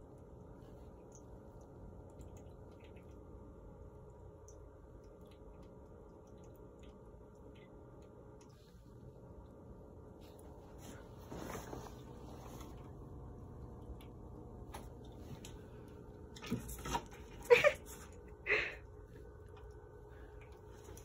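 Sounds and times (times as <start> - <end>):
aquarium filter hum: 0.0 - 21.0.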